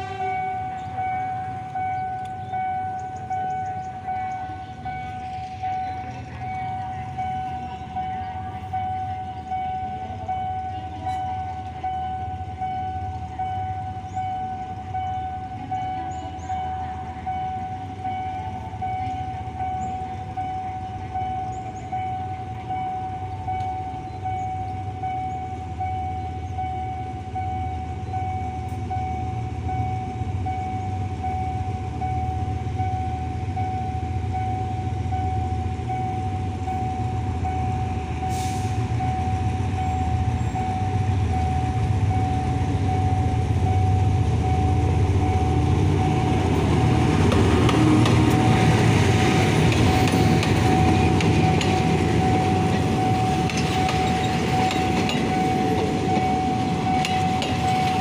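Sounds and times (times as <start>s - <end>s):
diesel locomotive rumble: 0.0s - 58.0s
pulsing warning tone: 0.0s - 58.0s.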